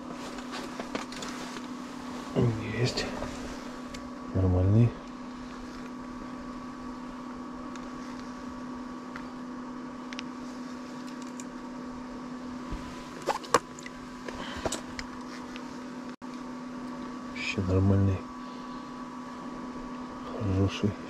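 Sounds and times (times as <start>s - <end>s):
faint high whine: 0.0s - 21.0s
steady hum: 0.0s - 21.0s.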